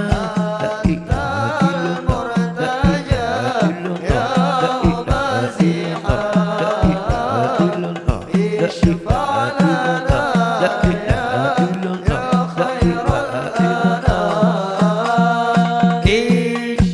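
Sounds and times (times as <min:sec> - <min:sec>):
drum strikes: 0:00.0 - 0:16.9
person singing devotional song: 0:00.0 - 0:16.9.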